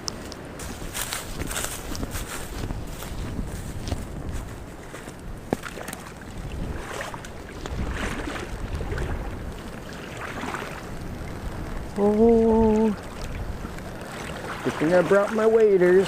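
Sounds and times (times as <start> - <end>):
water sloshing around waders: 0.0 - 16.0
wind on microphone: 0.0 - 16.0.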